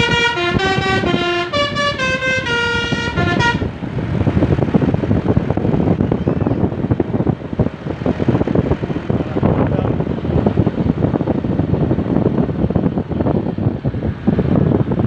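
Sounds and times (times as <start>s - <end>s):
vehicle and road rumble: 0.0s - 15.0s
wind buffeting microphone: 0.0s - 15.0s.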